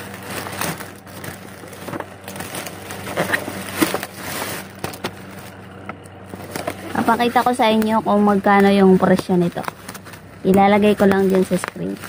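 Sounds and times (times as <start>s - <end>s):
plastic pouch crinkling: 0.0s - 12.0s.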